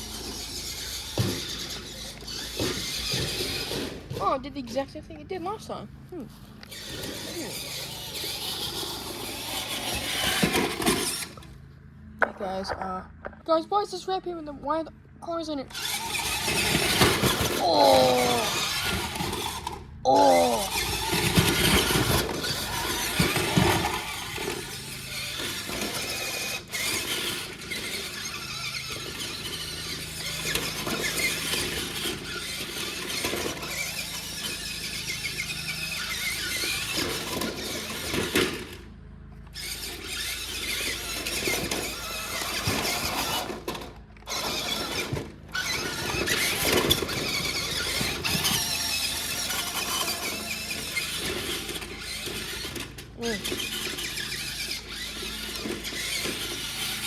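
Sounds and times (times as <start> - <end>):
toy truck motor whining: 0.0 - 57.0.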